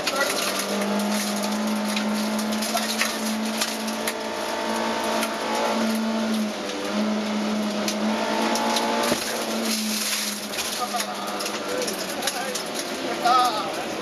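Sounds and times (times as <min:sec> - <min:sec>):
car engine revving hard: 0:00.0 - 0:12.0
gravel rattling against car: 0:00.0 - 0:14.0.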